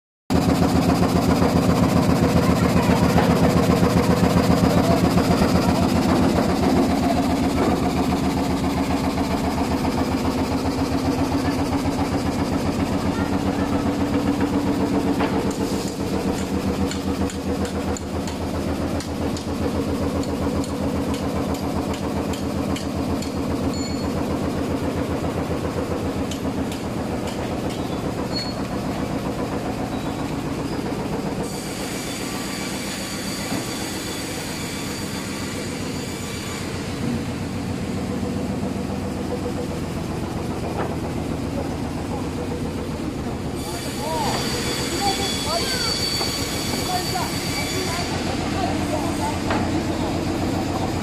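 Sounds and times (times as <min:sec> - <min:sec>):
sawmill machinery running: 0:00.3 - 0:51.0.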